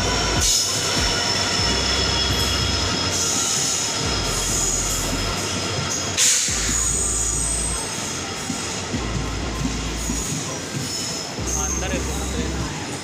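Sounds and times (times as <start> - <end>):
high squealing of train wheels: 0.0 - 13.0
train rumbling on rails: 0.0 - 13.0.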